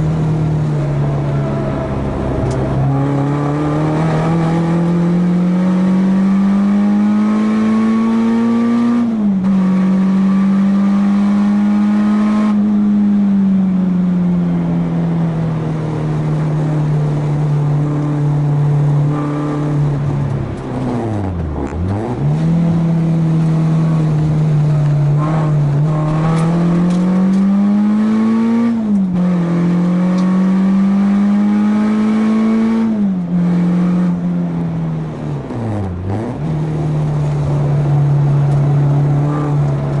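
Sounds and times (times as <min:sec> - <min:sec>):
car engine at high revs: 0:00.0 - 0:40.0.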